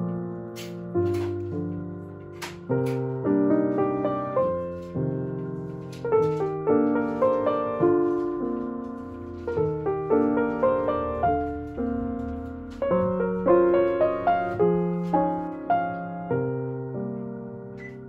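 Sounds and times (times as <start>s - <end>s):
piano piece: 0.0s - 18.0s.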